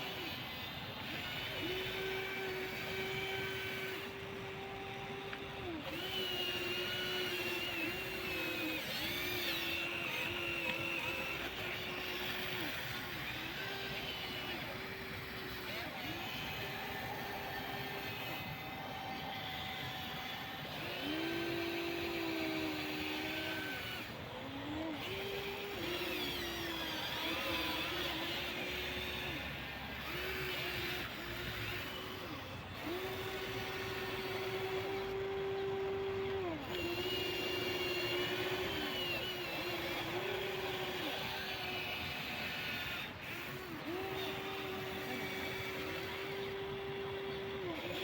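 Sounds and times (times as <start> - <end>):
electric motors whining: 0.0 - 48.0.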